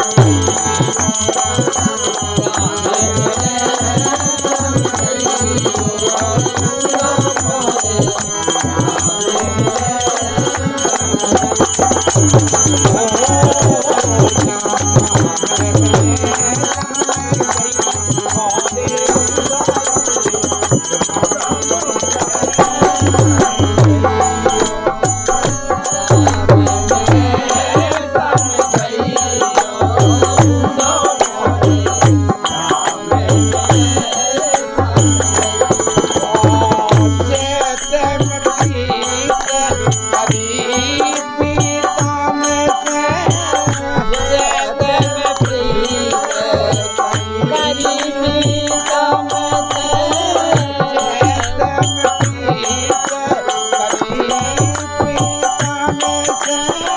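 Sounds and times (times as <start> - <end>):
dholak drum beating: 0.0 - 56.9
harmonium: 0.0 - 56.9
man singing: 0.0 - 56.9.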